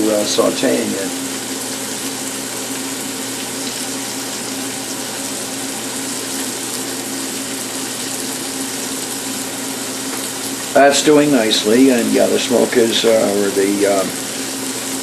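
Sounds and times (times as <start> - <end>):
fan humming: 0.0 - 15.0
liver sizzling in a pan: 0.1 - 15.0.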